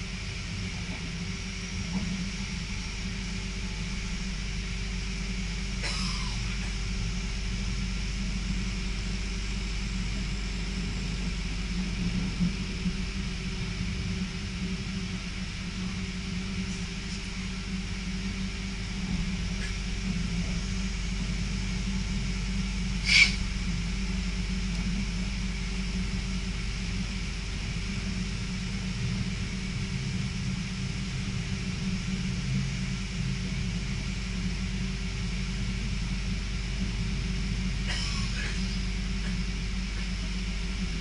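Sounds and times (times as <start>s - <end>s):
faint steady hum: 0.0s - 41.0s
train low rumble: 0.0s - 41.0s.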